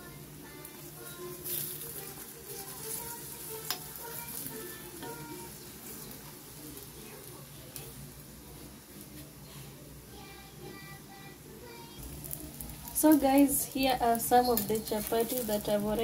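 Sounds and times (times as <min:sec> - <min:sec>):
oil sizzling on a griddle: 0:00.0 - 0:09.6, 0:11.6 - 0:16.0.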